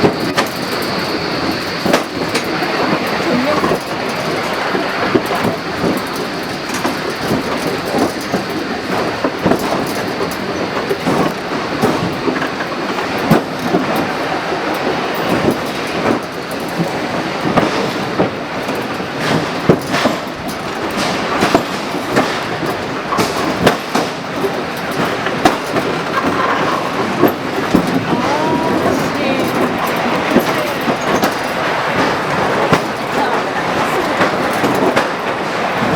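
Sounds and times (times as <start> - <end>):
rail car rattling on track: 0.0 - 35.9.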